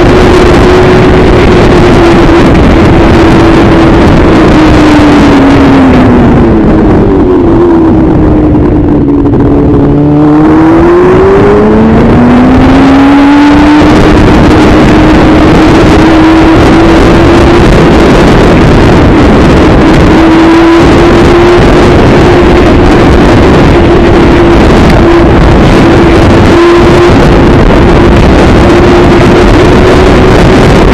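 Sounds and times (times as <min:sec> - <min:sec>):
motorcycle engine accelerating: 0:00.0 - 0:30.9
wind rush on microphone: 0:00.0 - 0:30.9.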